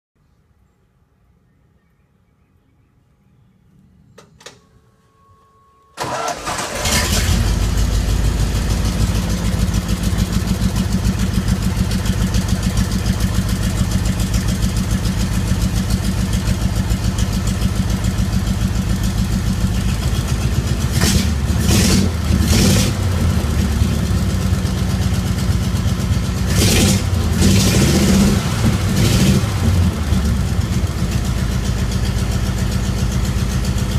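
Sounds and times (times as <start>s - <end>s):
race car engine starting and idling: 6.0s - 33.9s.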